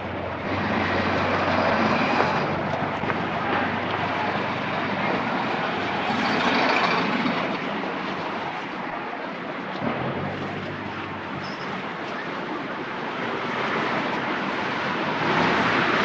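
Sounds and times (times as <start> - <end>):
motor traffic: 0.0 - 16.0
vehicle engines humming: 0.0 - 16.0.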